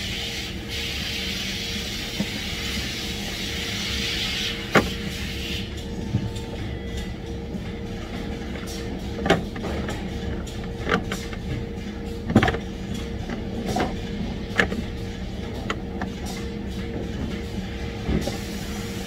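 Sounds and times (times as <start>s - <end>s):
factory machinery hum: 0.0s - 19.0s
hoses clacking and knocking: 2.0s - 19.0s.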